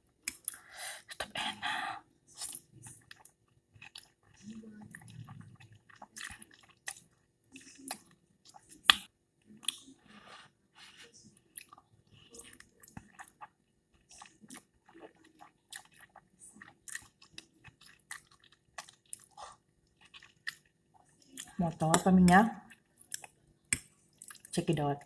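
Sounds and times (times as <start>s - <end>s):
person chewing noodles: 0.1s - 1.7s, 2.3s - 24.6s.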